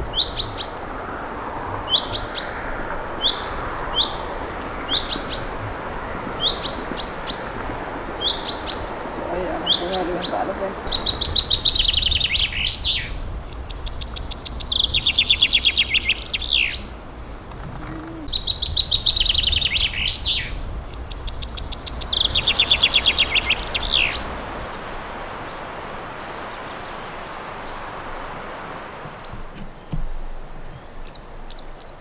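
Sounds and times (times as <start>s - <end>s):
chaffinch singing: 0.0s - 0.9s, 3.2s - 28.0s
faint background hiss: 0.0s - 32.0s.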